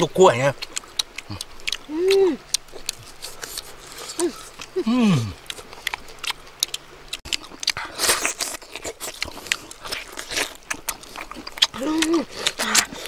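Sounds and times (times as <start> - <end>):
people chewing crunchy fish: 0.0 - 13.0.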